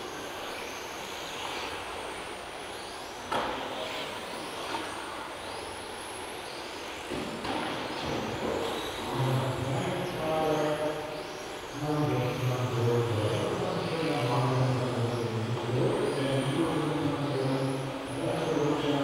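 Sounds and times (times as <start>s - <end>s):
electric model cars racing: 0.0s - 19.0s
high motor whines: 0.0s - 19.0s.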